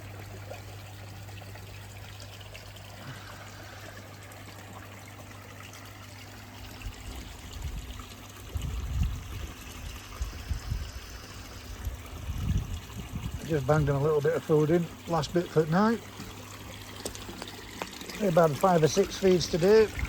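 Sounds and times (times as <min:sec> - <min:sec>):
steady low hum: 0:00.0 - 0:20.0
water trickling into a pond: 0:00.0 - 0:20.0.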